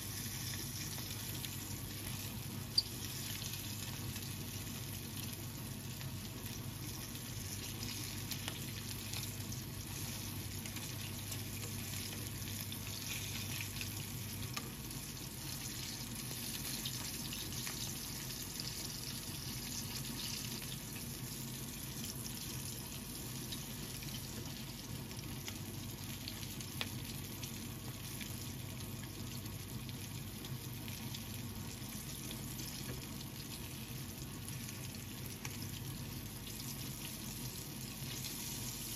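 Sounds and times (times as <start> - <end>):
chicken frying in oil: 0.0 - 38.9.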